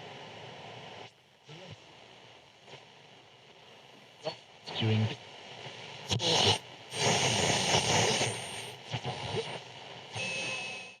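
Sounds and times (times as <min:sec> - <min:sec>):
radio static hiss: 0:00.1 - 0:10.6.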